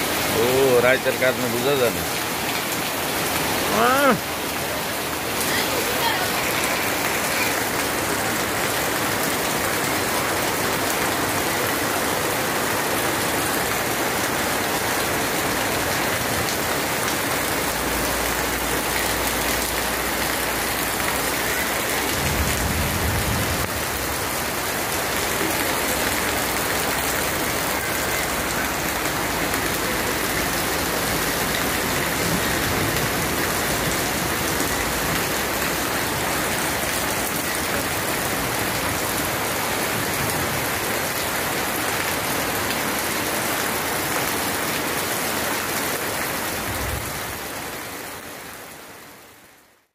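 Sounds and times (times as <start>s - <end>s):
heavy rain falling on water: 0.0s - 49.9s.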